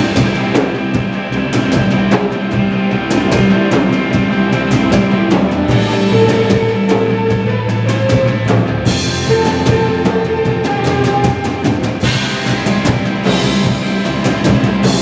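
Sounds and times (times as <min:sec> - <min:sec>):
drum kit beat: 0:00.0 - 0:15.0
electric guitars playing chords: 0:00.0 - 0:15.0.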